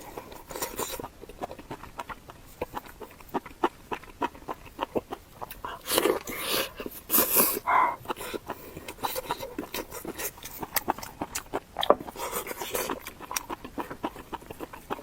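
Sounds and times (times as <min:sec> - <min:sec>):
chewing and mouth sounds: 0:00.0 - 0:15.0.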